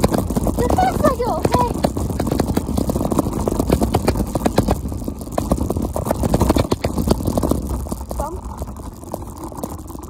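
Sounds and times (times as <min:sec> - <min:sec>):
scooter rolling on rough pavement: 0:00.0 - 0:10.0.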